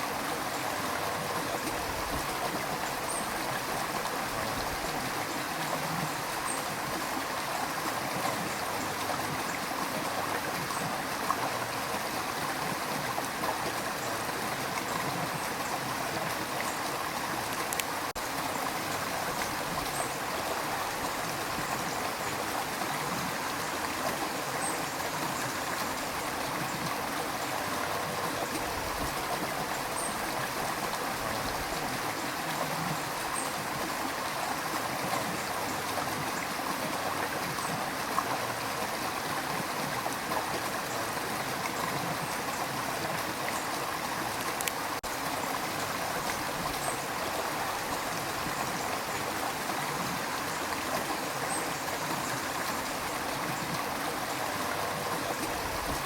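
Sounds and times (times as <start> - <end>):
river rushing: 0.0 - 56.0
water trickling and gurgling: 0.0 - 56.0.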